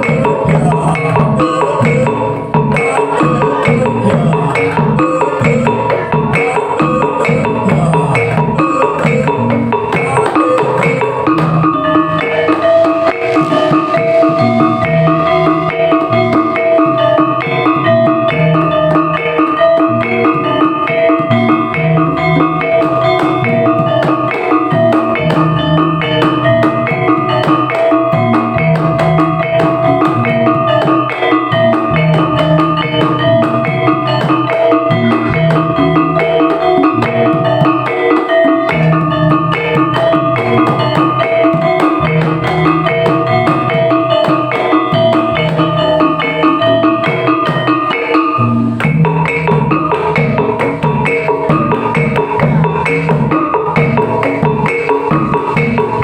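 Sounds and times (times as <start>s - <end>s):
drums beating a repeating pattern: 0.0s - 56.0s
ringing metallic tuned percussion: 0.0s - 56.0s.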